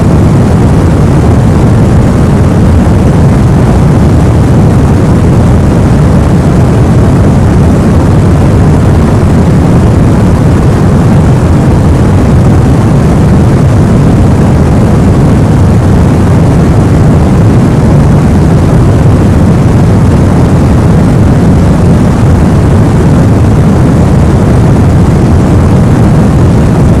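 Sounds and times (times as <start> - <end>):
white noise deep rumble: 0.0 - 27.0.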